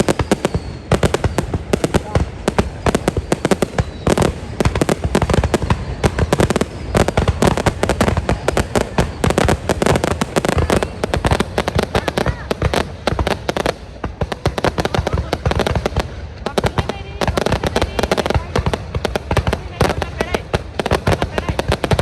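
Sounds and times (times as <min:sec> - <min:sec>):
fireworks bangs and crackle: 0:00.0 - 0:22.0.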